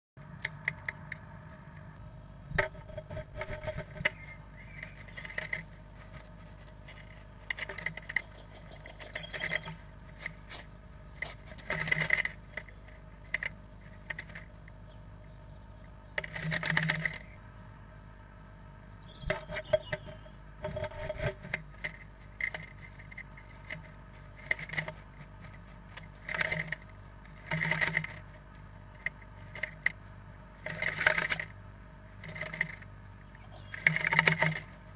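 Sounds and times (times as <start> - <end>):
faint steady hum: 0.2 - 34.9
bird rustling nest material: 2.0 - 14.9, 19.3 - 34.9.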